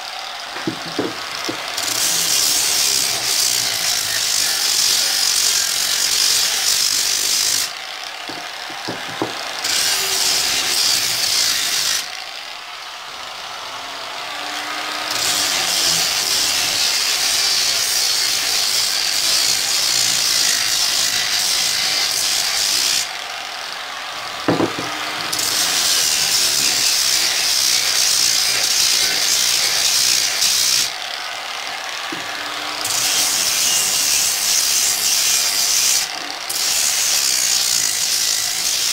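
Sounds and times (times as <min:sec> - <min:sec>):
electric sander on wood: 0:00.0 - 0:38.9.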